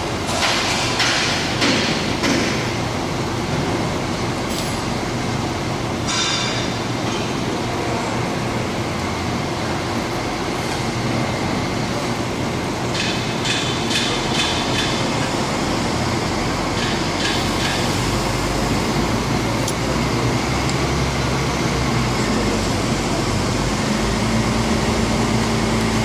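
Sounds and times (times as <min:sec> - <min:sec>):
mechanical rumble and hiss: 0:00.0 - 0:26.0.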